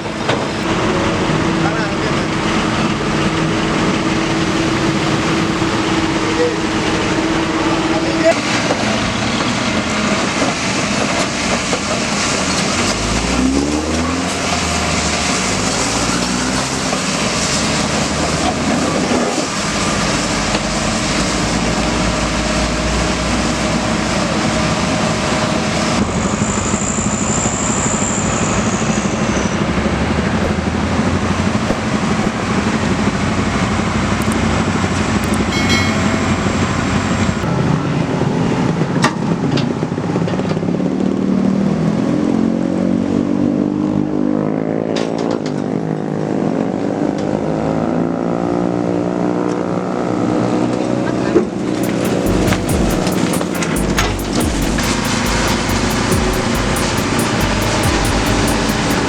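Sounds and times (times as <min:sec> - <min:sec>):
excavator engine and hydraulics: 0:00.0 - 0:40.8, 0:51.6 - 0:59.0.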